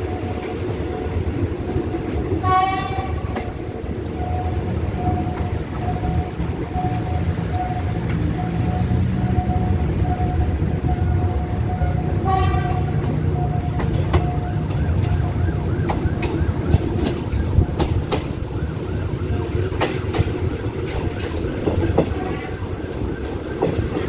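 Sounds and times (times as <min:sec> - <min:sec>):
train rumbling: 0:00.0 - 0:24.0
wheels clicking over rail joints: 0:00.0 - 0:24.0.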